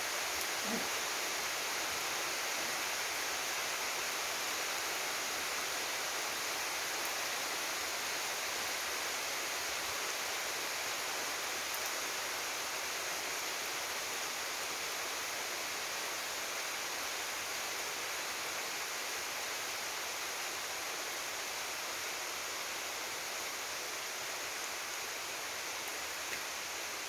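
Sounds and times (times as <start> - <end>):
rain falling in forest: 0.0 - 27.0.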